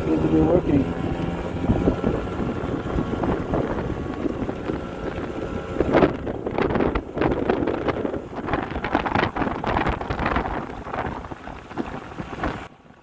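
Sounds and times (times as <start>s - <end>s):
scooter engine revving unevenly: 0.0s - 12.8s
wind noise on microphone: 0.0s - 13.0s.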